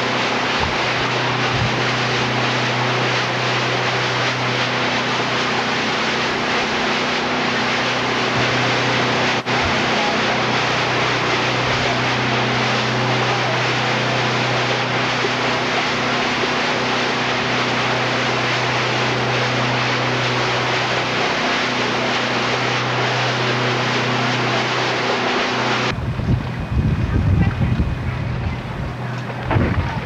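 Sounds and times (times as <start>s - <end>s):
motorboat engine droning: 0.0s - 30.0s
water spraying off hull: 0.0s - 30.0s.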